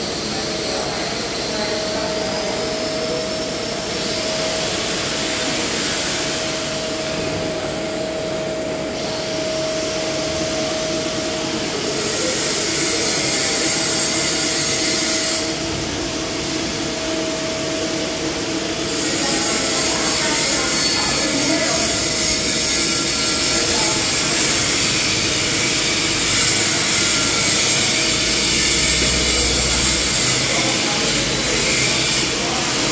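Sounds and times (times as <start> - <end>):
welding arc hissing: 0.0 - 32.9.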